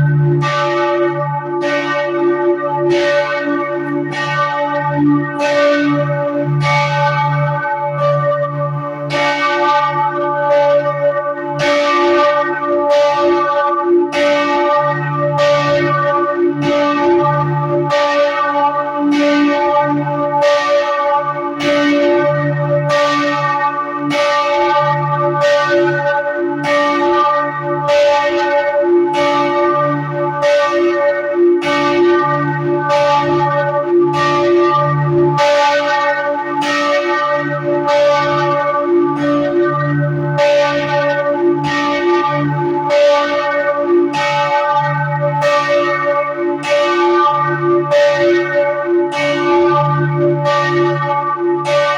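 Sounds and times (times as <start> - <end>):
church bells ringing together: 0.0 - 51.9.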